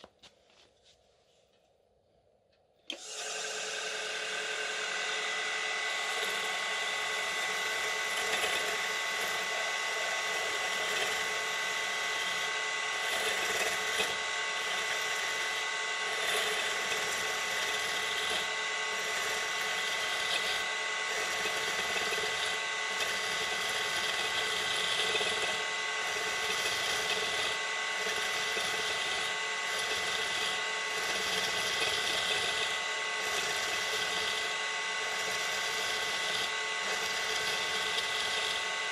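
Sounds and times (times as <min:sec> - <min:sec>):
tool scraping metal on lathe: 0:04.2 - 0:38.9.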